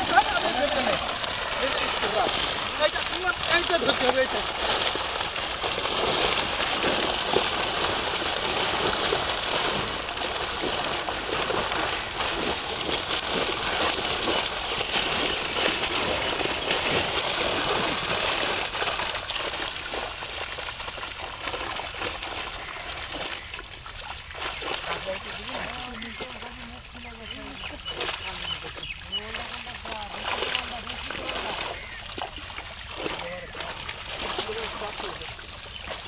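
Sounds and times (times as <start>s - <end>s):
fish splashing in water: 0.0s - 36.0s.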